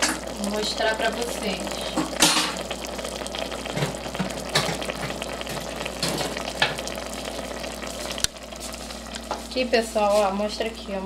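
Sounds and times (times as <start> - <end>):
stew sizzling and bubbling: 0.0 - 11.0.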